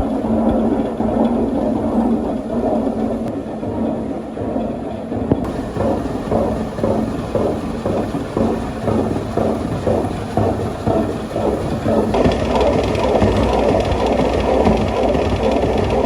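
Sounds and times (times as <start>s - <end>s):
mill machinery rumbling and humming: 0.0s - 16.0s.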